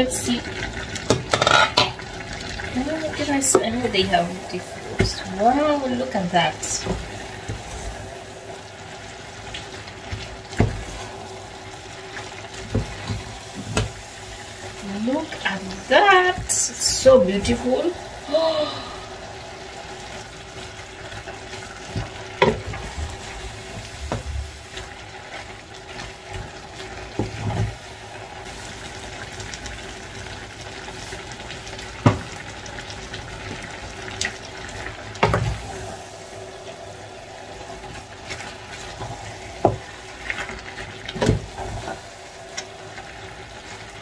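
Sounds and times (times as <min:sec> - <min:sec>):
stew sizzling and simmering: 0:00.0 - 0:44.0.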